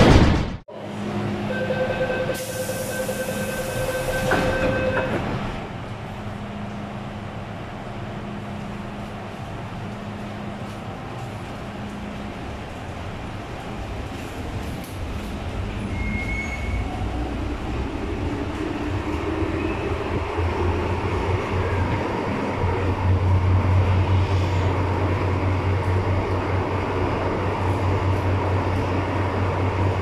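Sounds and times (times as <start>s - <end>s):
train running gear rumbling: 0.3s - 30.0s.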